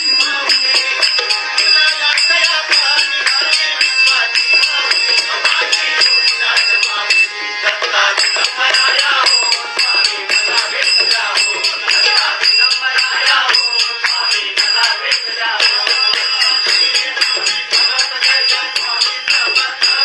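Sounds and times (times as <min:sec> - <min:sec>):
jingling metal hand percussion: 0:00.0 - 0:20.0
person singing devotional music: 0:00.0 - 0:20.0.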